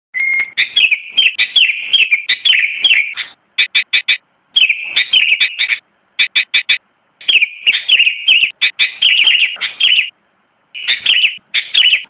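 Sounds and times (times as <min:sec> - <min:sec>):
bulbul singing whistled notes: 0:00.2 - 0:10.1, 0:10.8 - 0:12.0.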